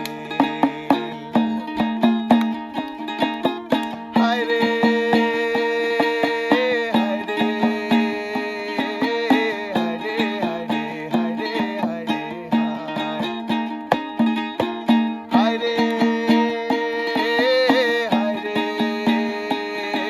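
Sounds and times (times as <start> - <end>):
plucked string notes: 0.0 - 20.0.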